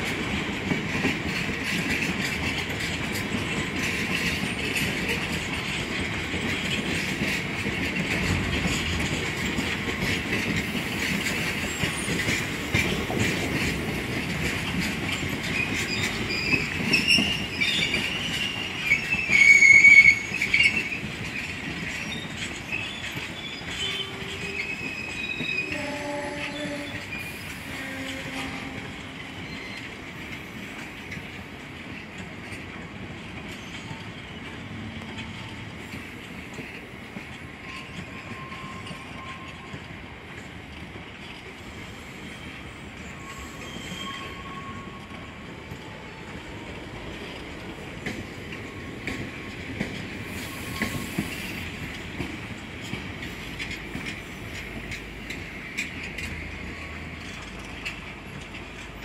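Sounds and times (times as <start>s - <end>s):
wheels clicking over rail joints: 0.0s - 59.0s
train wheels squealing: 0.6s - 31.4s, 33.4s - 40.0s, 41.0s - 59.0s.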